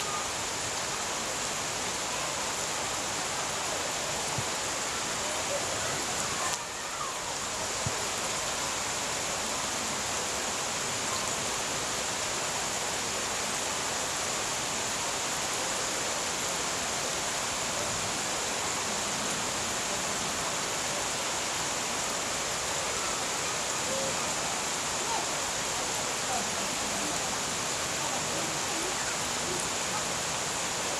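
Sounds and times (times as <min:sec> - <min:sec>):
rain pouring on plants: 0:00.0 - 0:30.9.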